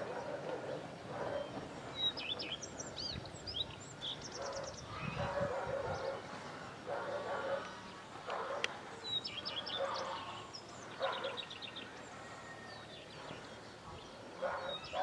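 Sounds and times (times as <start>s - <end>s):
birds chirping and trilling: 0.0s - 15.0s
steady background noise: 0.0s - 15.0s.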